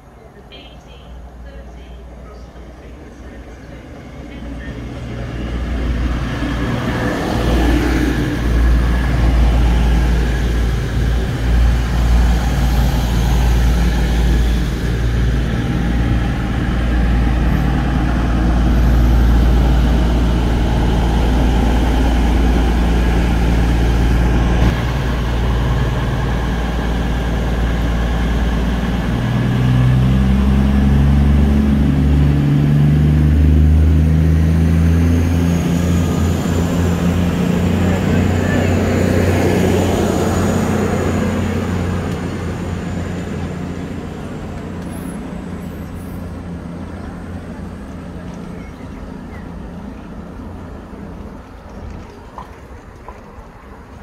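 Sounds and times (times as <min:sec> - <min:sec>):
diesel train engine rumble: 0:00.0 - 0:54.0.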